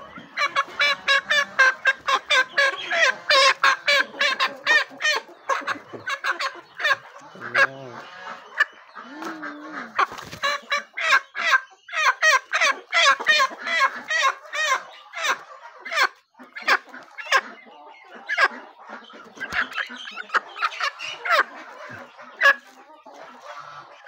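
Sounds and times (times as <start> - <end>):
chickens clucking: 0.0 - 24.0
low drawn-out chicken calls: 0.0 - 24.0.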